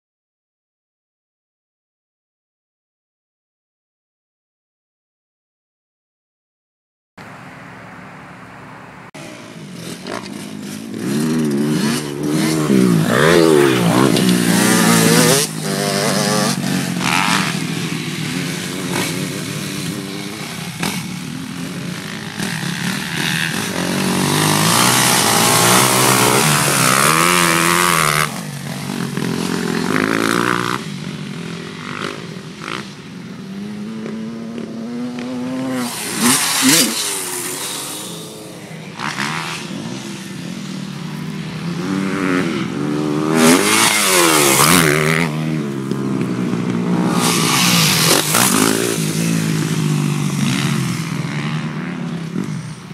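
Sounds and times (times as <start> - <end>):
bikes passing by: 7.2 - 52.9
motocross bike engines: 7.2 - 52.9.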